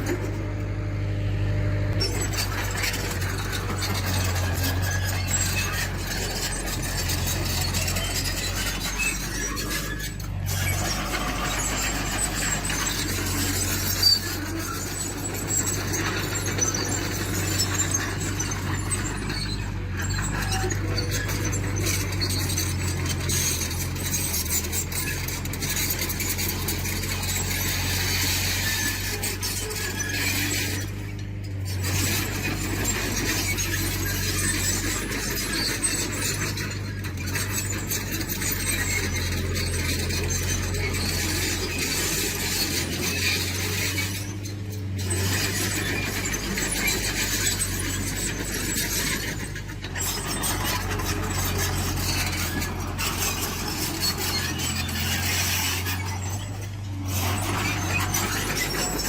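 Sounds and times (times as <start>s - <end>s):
diesel machinery engine hum: 0.0s - 59.0s
metallic clinks and scraping: 2.0s - 59.0s.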